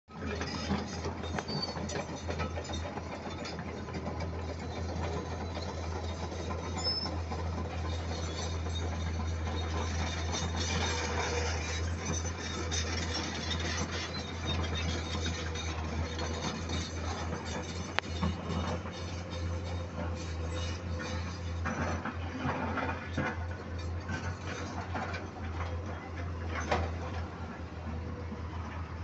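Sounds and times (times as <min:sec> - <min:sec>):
excavator diesel engine droning: 0:00.1 - 0:29.0.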